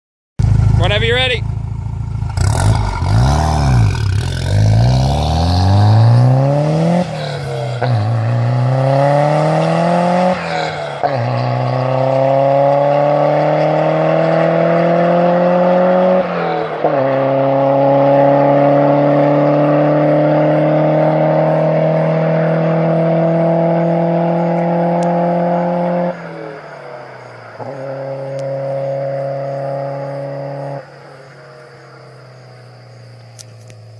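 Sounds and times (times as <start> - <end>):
turbocharged car engine accelerating: 0.4 - 33.9.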